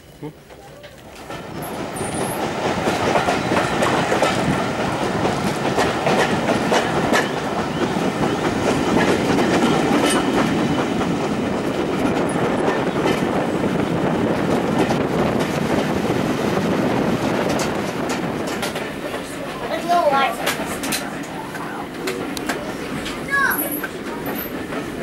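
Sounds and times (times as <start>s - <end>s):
train wheels rumbling on track: 0.3s - 25.0s
wheels clicking over rail joints: 0.4s - 25.0s.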